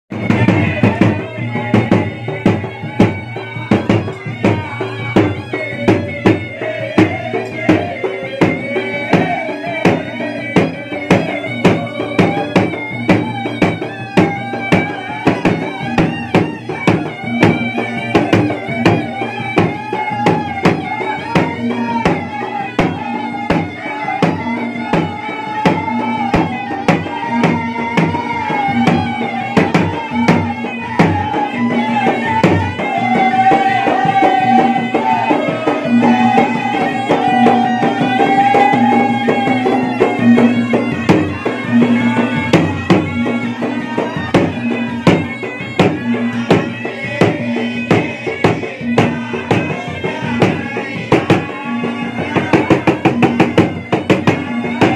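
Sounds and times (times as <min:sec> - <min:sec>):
barrel drums fast rhythm: 0:00.1 - 0:54.9
reedy wind instrument melody: 0:00.1 - 0:54.9.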